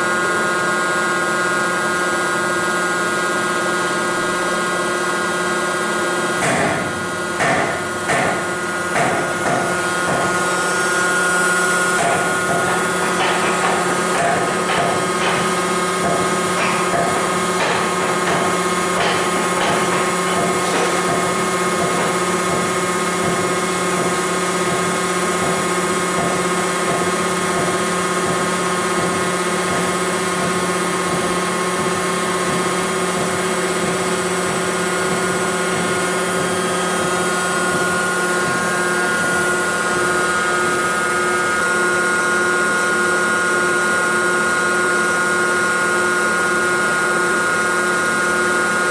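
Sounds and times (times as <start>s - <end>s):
testing machine mechanical hum: 0.0s - 48.9s.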